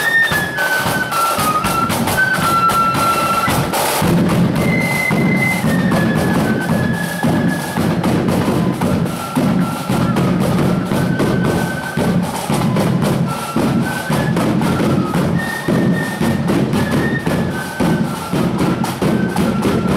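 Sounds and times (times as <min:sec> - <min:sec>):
flutes playing quick tune: 0:00.0 - 0:19.9
rapid snare drumming: 0:00.0 - 0:19.9.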